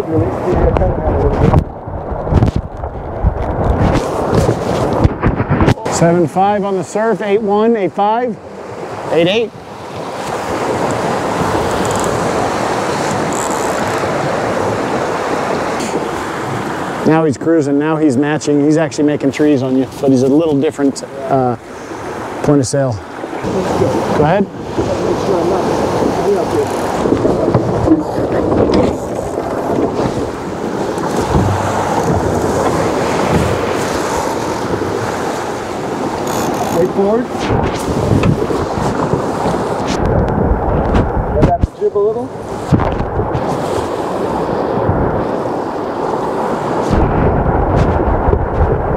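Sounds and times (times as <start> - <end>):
strong wind: 0.0 - 48.9
water rushing along hull: 0.0 - 48.9.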